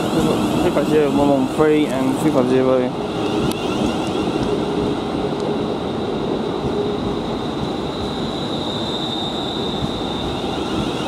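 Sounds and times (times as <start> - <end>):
train cars rolling rumble: 0.0 - 11.0.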